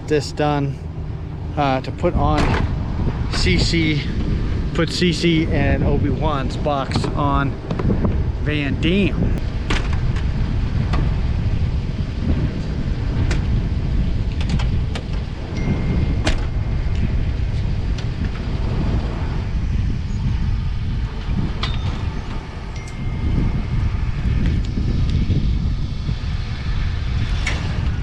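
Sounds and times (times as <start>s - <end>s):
pickup truck engine rumbling: 0.0s - 28.0s.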